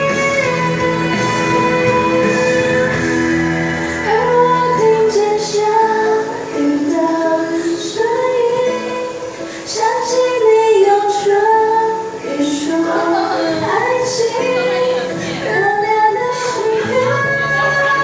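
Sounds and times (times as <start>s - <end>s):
musical accompaniment: 0.0s - 18.0s
woman singing pop ballad: 0.0s - 18.0s.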